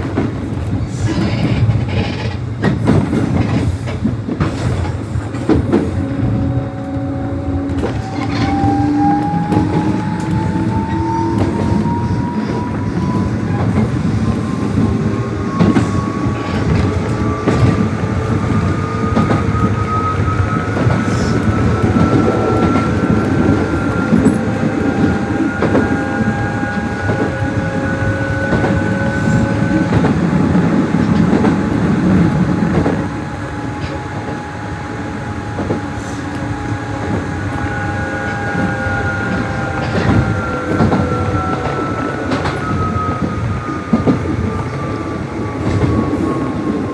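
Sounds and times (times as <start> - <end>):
train motor whine: 4.5 - 46.9.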